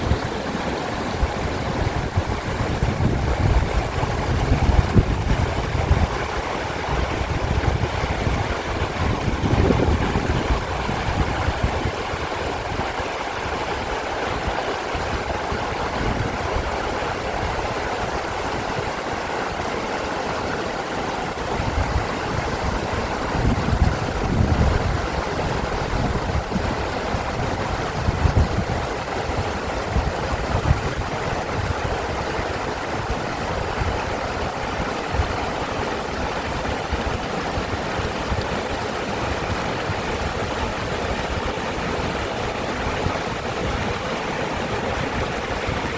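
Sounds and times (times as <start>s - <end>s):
stream rushing over rocks: 0.0s - 45.9s
wind buffeting microphone: 0.0s - 45.9s.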